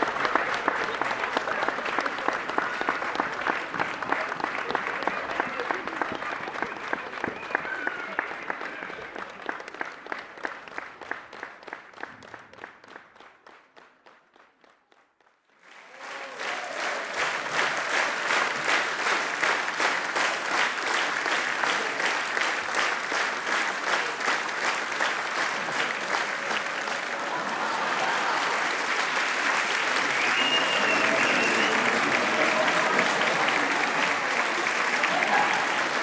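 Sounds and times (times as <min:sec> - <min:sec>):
audience applause: 0:00.0 - 0:36.0.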